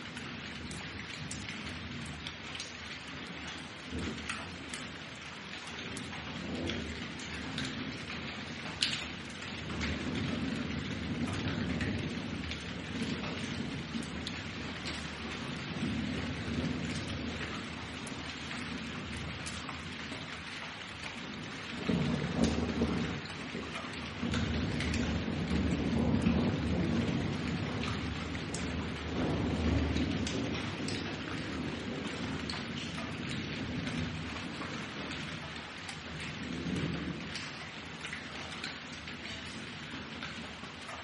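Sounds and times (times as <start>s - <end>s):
rain falling: 0.0s - 41.0s
thunder rumbling: 6.0s - 40.9s.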